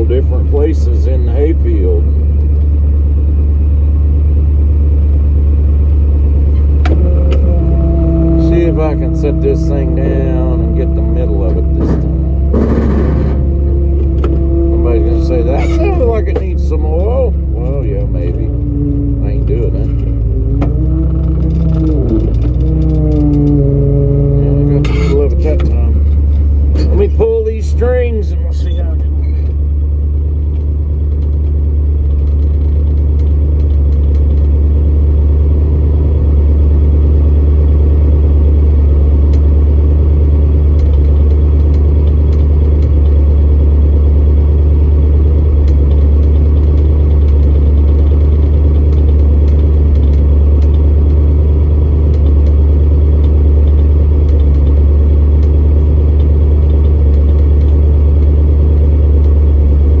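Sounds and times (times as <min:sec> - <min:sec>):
truck engine idling: 0:00.0 - 1:00.0.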